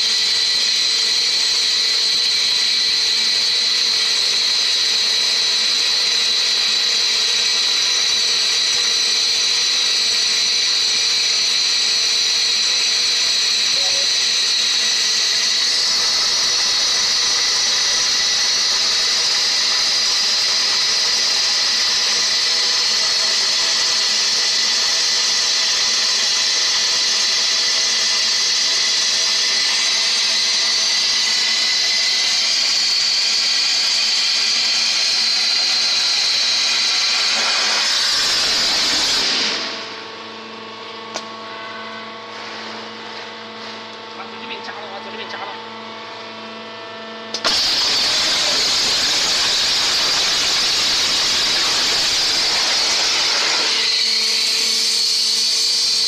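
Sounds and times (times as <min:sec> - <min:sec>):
waterjet hissing through steel: 0:00.0 - 0:39.9, 0:47.4 - 0:56.0
machine hum with tones: 0:00.0 - 0:56.0.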